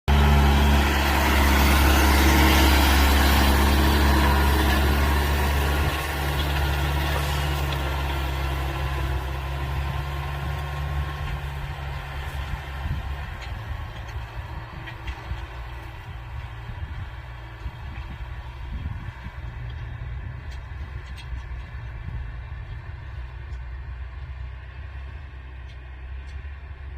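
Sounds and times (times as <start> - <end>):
tractor diesel engine rumbling: 0.0 - 26.9.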